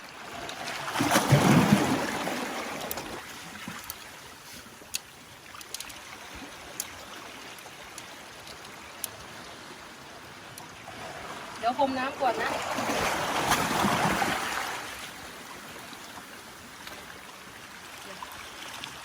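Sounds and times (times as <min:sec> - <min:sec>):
sea water surging over rocks: 0:00.0 - 0:19.0.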